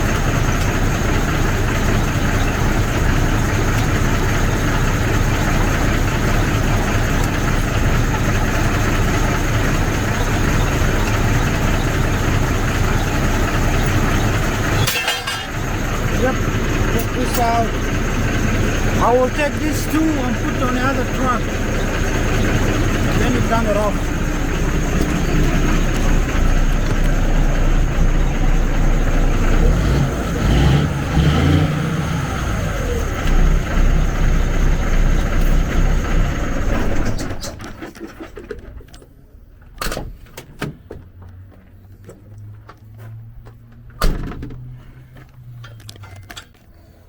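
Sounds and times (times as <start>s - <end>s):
truck diesel engine running: 0.0s - 38.5s.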